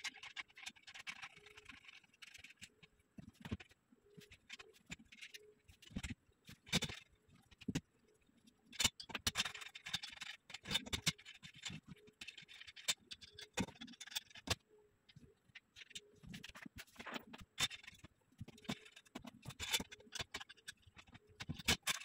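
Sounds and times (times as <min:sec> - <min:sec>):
metal parts clicking and knocking: 0:00.0 - 0:07.9, 0:08.6 - 0:22.0.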